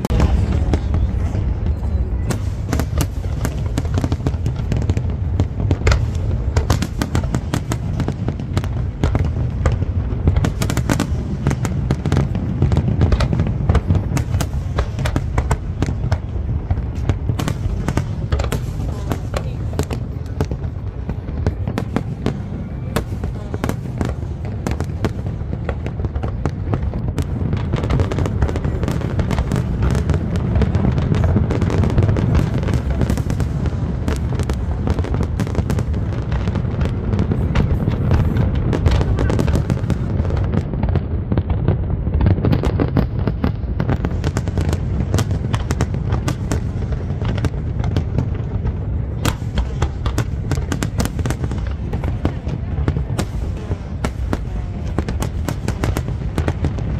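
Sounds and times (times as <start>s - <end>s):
fireworks booming: 0.0s - 56.9s
fireworks cracks and crackles: 0.0s - 56.9s.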